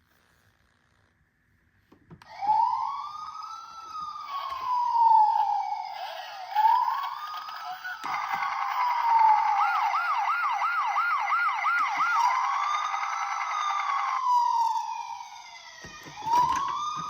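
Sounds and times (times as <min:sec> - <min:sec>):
toy electronic siren wailing: 0:02.2 - 0:17.0.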